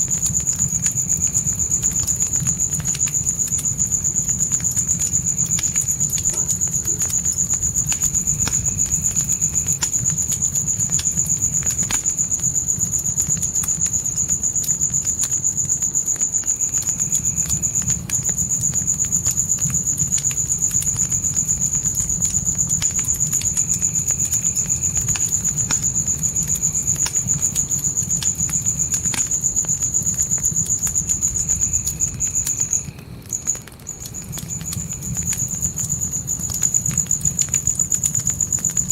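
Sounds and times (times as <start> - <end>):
campfire crackling: 0.0 - 38.9
crickets chirping: 0.0 - 38.9.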